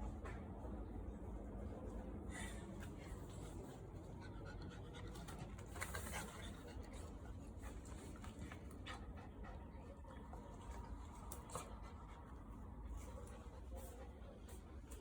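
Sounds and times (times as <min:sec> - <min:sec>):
dog panting softly: 0:02.9 - 0:15.0.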